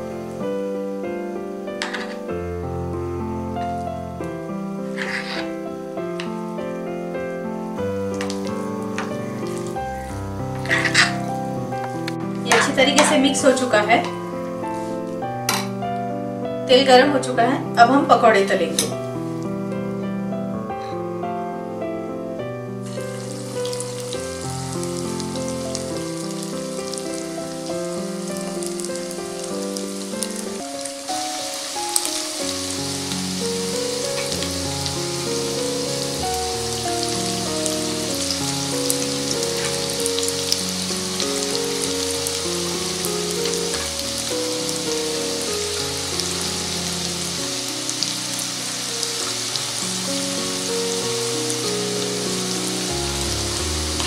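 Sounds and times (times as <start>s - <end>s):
deep-frying sizzle with crackles: 0.0s - 15.8s, 16.8s - 20.0s, 22.7s - 54.0s
background music: 0.0s - 54.0s.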